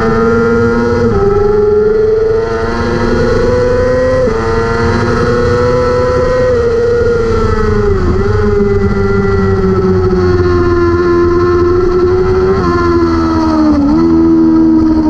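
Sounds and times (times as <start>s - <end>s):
motorcycle engine revving and upshifting: 0.0s - 15.0s.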